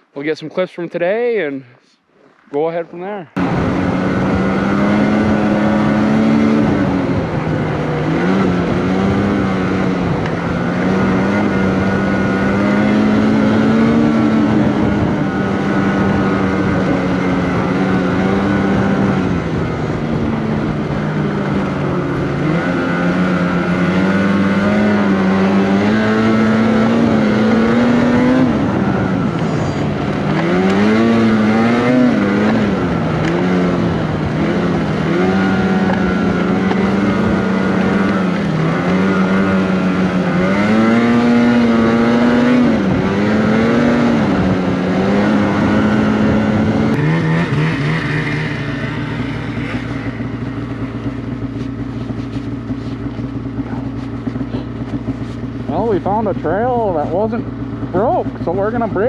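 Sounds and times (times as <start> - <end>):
snowmobile engine running: 2.2 - 59.0.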